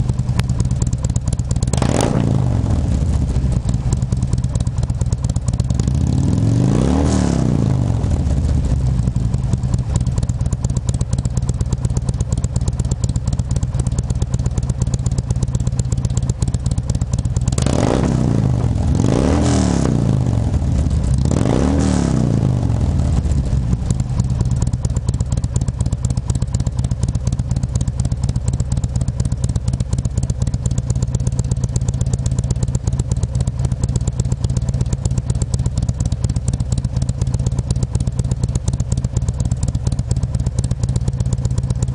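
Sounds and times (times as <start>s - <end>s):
motorcycle engine idling and revving: 0.0s - 41.9s.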